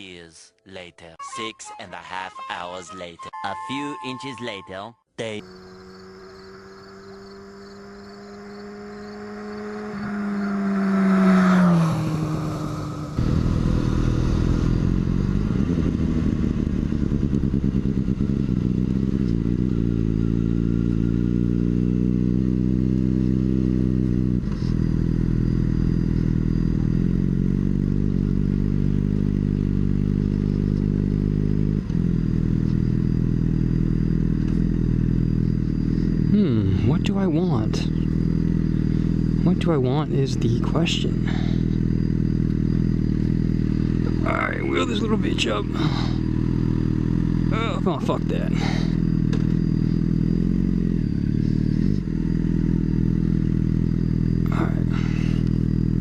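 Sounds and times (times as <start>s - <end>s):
motorcycle engine running: 5.4s - 56.0s.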